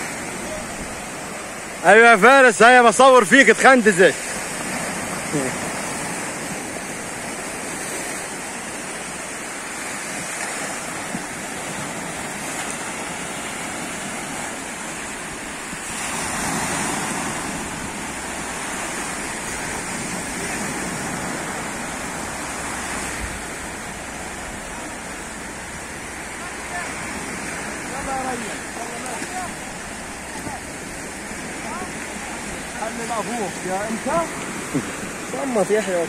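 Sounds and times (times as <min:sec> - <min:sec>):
sea waves washing on shore: 0:00.0 - 0:36.0.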